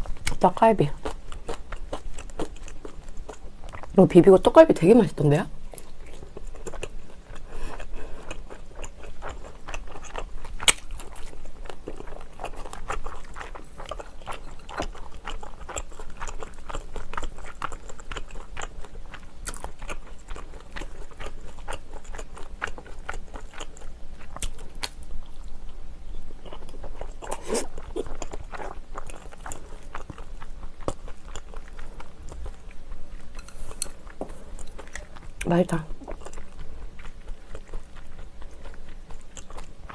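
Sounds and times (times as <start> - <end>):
close chewing and mouth clicks: 0.0 - 4.0, 5.5 - 39.9.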